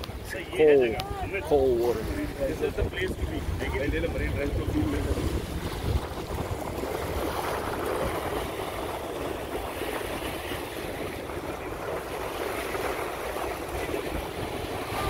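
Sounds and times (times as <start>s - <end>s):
waves breaking over rocks: 0.0s - 15.0s
wind buffeting microphone: 0.0s - 15.0s.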